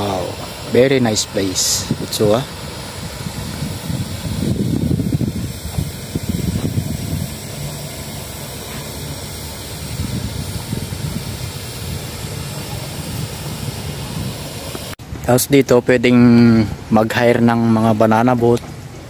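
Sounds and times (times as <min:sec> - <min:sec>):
wind buffeting the microphone: 0:00.0 - 0:17.4.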